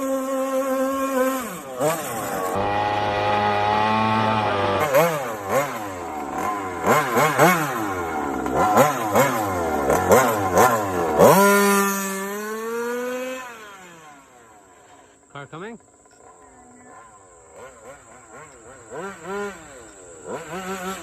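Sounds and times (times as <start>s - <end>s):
small two-stroke engine revving: 0.0s - 21.0s.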